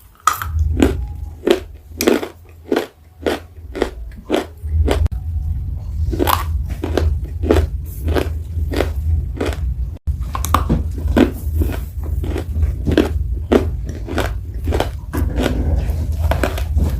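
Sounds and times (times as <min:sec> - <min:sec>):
crunchy chewing: 0:00.0 - 0:05.1, 0:06.0 - 0:16.9
low rumble: 0:00.2 - 0:16.9.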